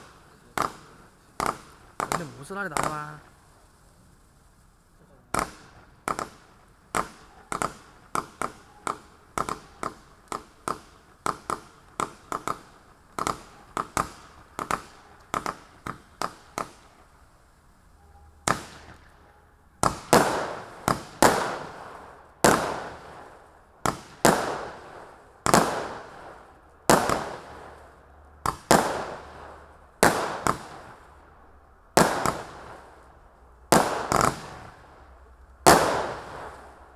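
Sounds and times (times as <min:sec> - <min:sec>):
firework cake bangs: 0:00.0 - 0:04.0, 0:05.1 - 0:31.3, 0:31.9 - 0:36.9.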